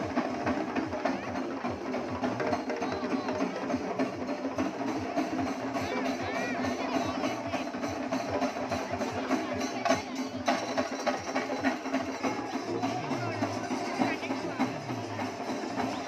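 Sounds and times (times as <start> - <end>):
crowd voices: 0.0 - 16.0
fast even drumming: 0.0 - 16.0
loud festival music: 0.0 - 16.0.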